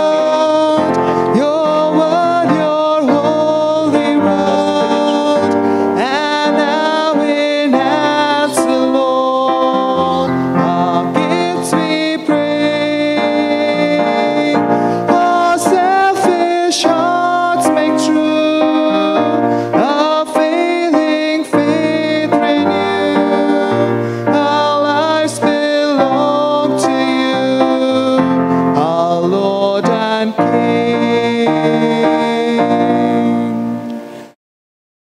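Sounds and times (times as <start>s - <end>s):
hymn singing: 0.0s - 34.4s
keyboard accompaniment: 0.0s - 34.4s.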